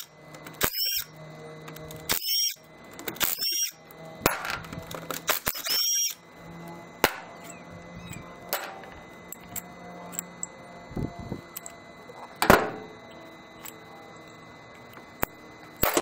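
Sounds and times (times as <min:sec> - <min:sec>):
impact driver whine: 0:00.0 - 0:16.0.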